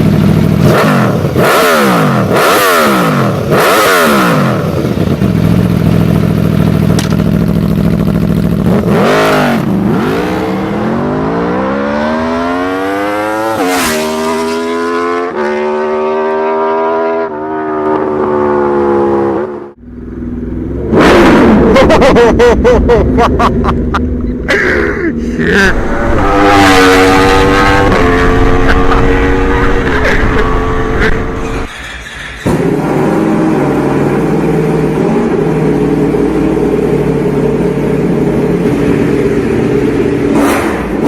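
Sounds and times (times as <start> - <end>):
motorcycle engine revving: 0.0 - 22.5, 25.3 - 41.0.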